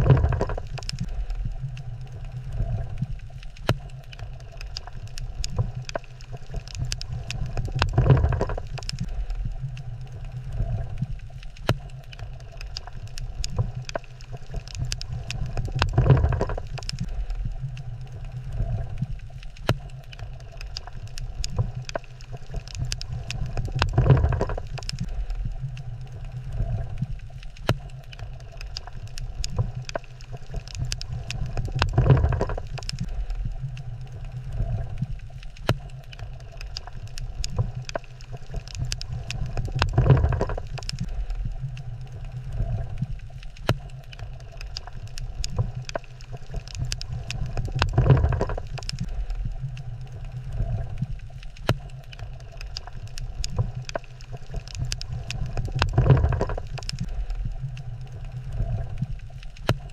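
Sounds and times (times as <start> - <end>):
low underwater rumble: 0.0 - 59.9
sharp underwater clicks: 0.0 - 59.9.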